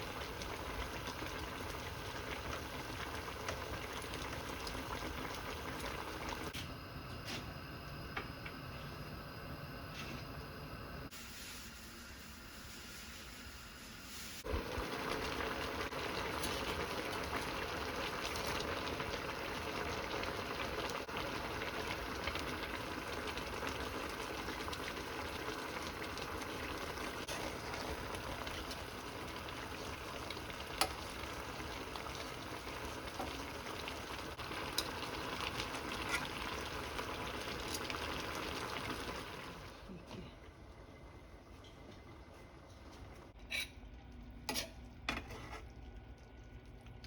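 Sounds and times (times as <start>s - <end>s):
stew bubbling and sizzling: 0.0s - 47.0s.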